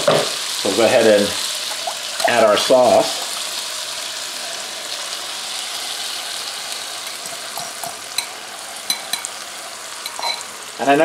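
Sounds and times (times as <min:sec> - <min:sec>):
sauce sizzling in a hot pan: 0:00.0 - 0:11.0.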